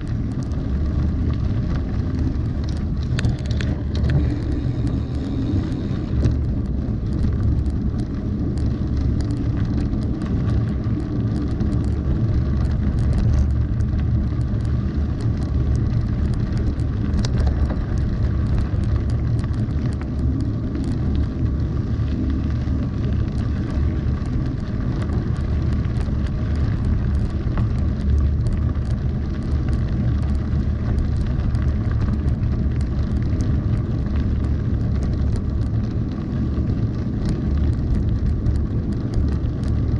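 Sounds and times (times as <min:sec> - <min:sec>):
bike tyres rumbling on gravel: 0:00.0 - 0:39.9
clicks and rattles of loose stones: 0:00.0 - 0:39.9.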